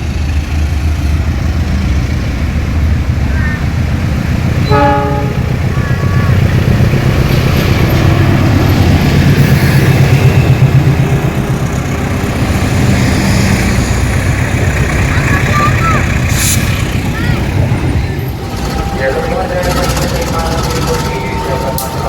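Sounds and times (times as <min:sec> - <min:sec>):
diesel locomotive engine throbbing: 0:00.0 - 0:22.0.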